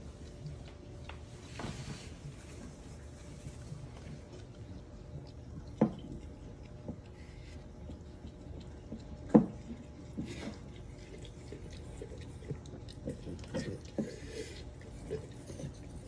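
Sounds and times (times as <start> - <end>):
dog licking a jug: 2.9 - 16.0.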